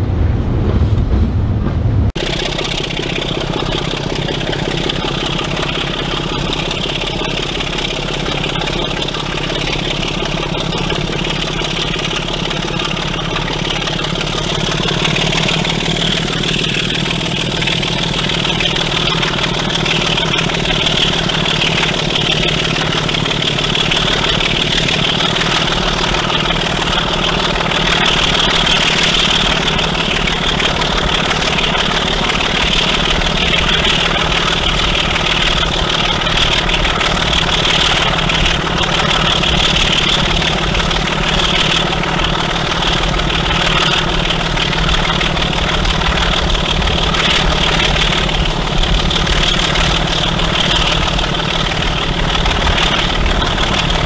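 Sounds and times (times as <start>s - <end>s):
diesel locomotive engine throbbing: 0.0s - 54.0s.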